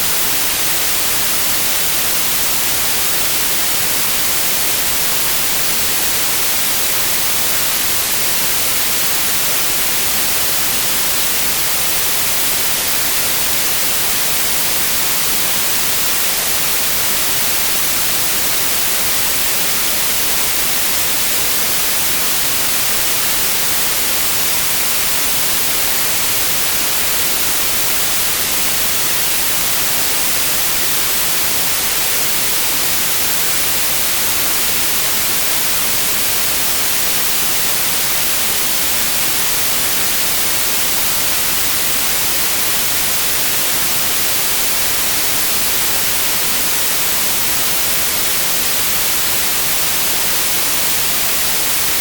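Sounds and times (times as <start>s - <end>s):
white noise hiss: 0.0s - 52.0s.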